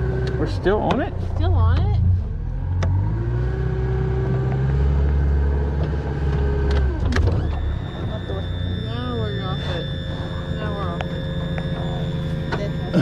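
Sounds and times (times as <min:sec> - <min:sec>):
outboard motor running hard: 0:00.0 - 0:13.0.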